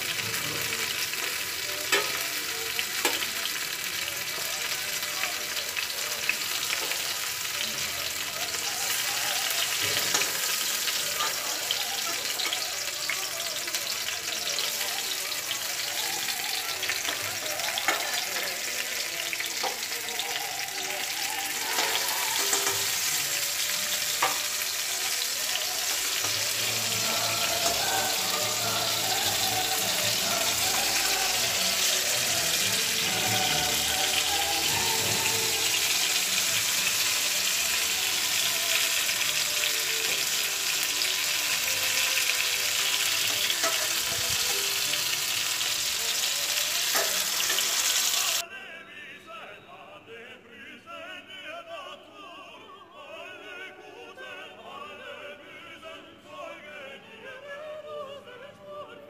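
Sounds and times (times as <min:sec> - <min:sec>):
food sizzling in hot oil: 0:00.0 - 0:48.4.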